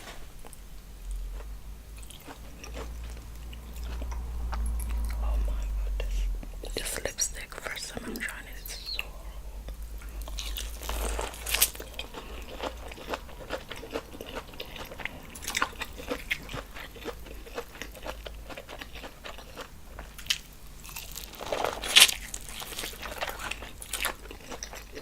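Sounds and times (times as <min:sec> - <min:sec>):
biting and chewing food: 0:00.4 - 0:05.7, 0:09.7 - 0:25.0.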